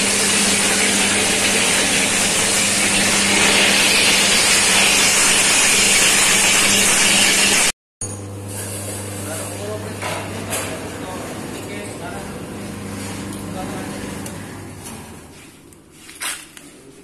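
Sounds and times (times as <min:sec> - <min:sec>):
motor hum: 0:00.0 - 0:15.8.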